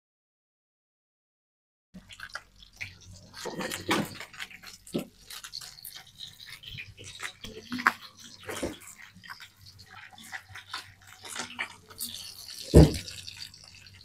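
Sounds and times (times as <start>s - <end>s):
fish frying in hot oil: 2.0s - 14.0s.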